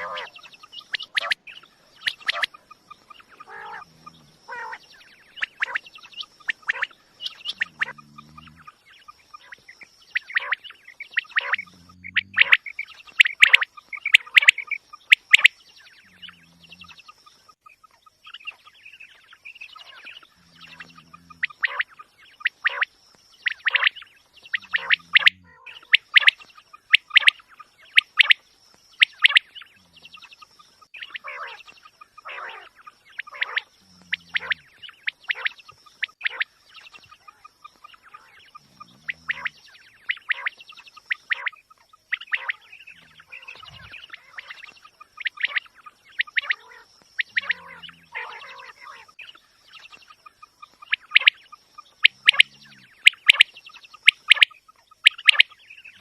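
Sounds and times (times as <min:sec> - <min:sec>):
quail chirping: 0:00.0 - 0:56.0.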